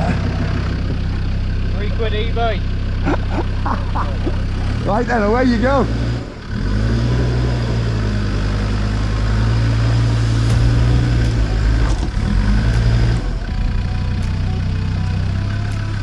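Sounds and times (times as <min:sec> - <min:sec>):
off-road vehicle engine: 0:00.0 - 0:16.0.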